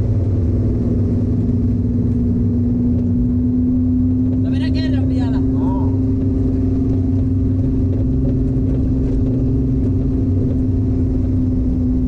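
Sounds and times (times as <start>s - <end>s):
car engine running steadily: 0.0s - 12.0s.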